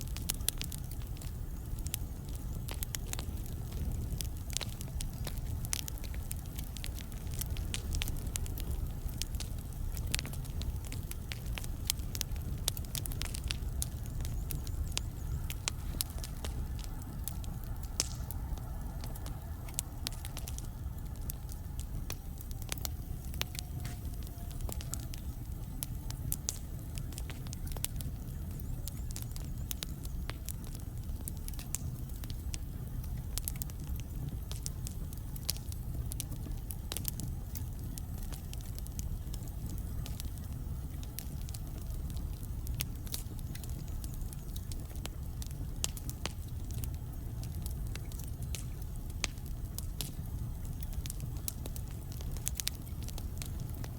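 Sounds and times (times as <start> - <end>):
wood fire crackling in fireplace: 0.0 - 53.9.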